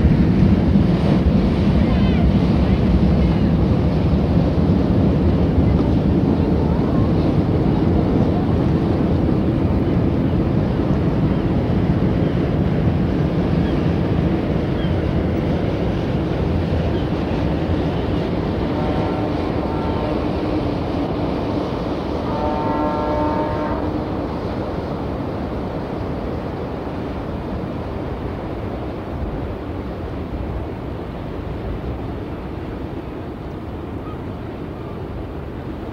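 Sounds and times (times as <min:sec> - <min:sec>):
boat engine rumble: 0:00.0 - 0:35.9.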